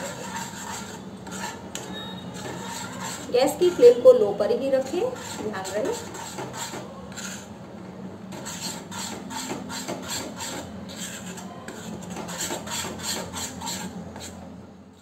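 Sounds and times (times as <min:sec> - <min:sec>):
spoon scraping and stirring in a pan: 0:00.0 - 0:15.0.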